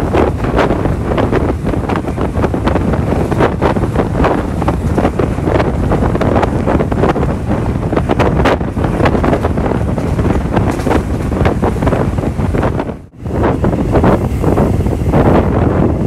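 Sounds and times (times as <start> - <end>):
train rumbling on track: 0.0 - 16.0
wind buffeting microphone: 0.0 - 16.0.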